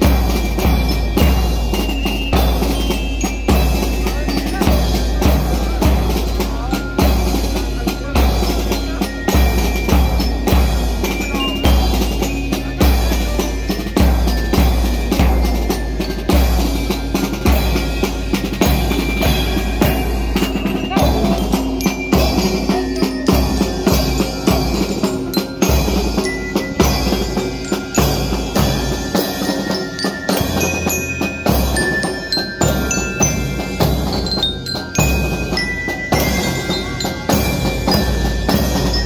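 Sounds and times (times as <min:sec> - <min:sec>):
bass drums beating: 0:00.0 - 0:39.0
bell lyres ringing melody: 0:00.0 - 0:39.0
cymbals crashing: 0:00.0 - 0:39.0
snare drums: 0:00.0 - 0:39.0.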